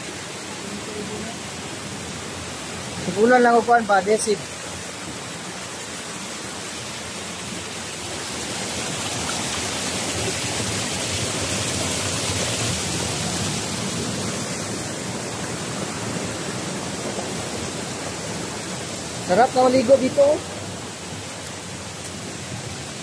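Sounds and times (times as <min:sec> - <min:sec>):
stream rushing over stones: 0:00.0 - 0:23.0.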